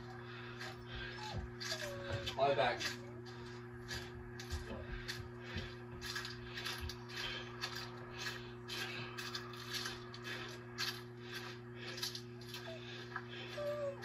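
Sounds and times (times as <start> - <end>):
low electrical hum: 0.0 - 14.0
footsteps crunching dry grass: 0.4 - 14.0.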